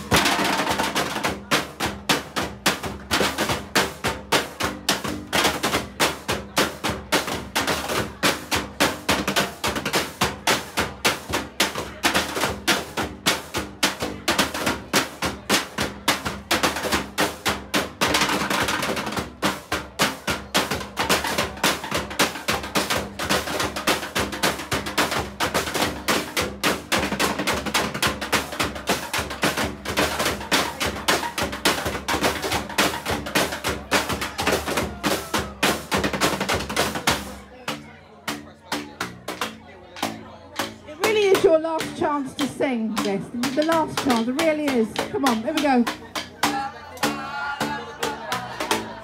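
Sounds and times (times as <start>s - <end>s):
drumsticks beating plastic barrels: 0.0s - 49.0s.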